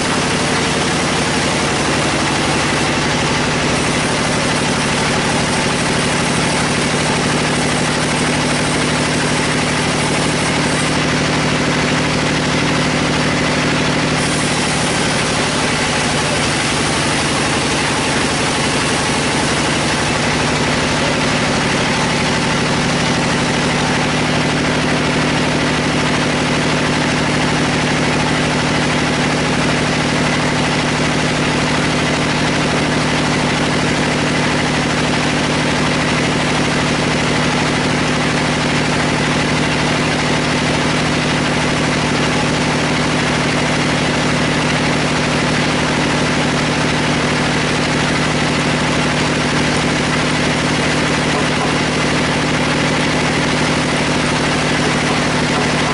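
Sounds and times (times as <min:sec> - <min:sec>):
band sawmill sawing a log: 0:00.0 - 0:55.9.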